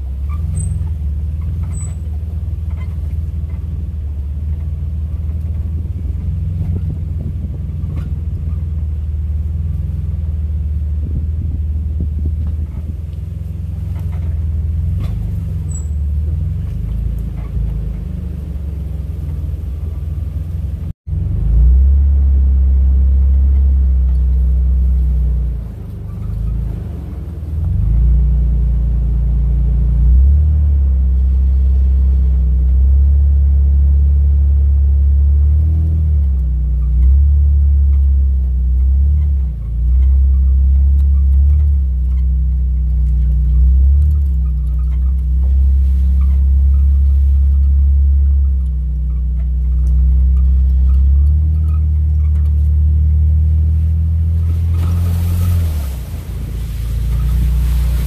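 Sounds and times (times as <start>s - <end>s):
car rumbling: 0.0s - 58.0s.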